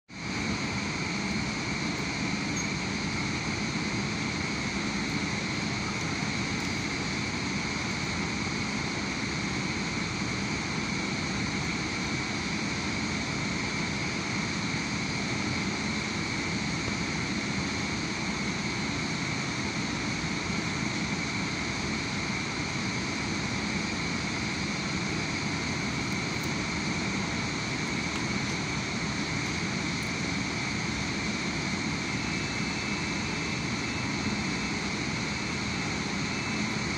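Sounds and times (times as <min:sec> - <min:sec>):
industrial machinery hiss and whine: 0:00.1 - 0:36.9.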